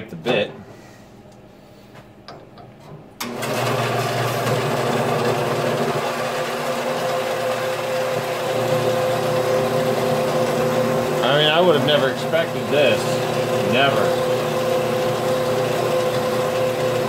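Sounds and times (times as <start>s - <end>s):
bandsaw cutting metal: 3.2s - 17.0s.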